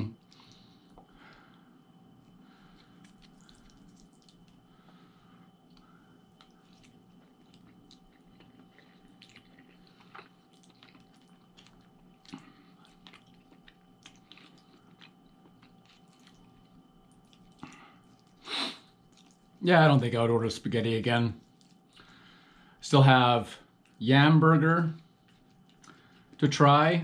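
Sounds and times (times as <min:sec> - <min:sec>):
faint chewing: 0:00.2 - 0:19.6, 0:21.3 - 0:22.7, 0:23.7 - 0:24.0, 0:25.0 - 0:26.4.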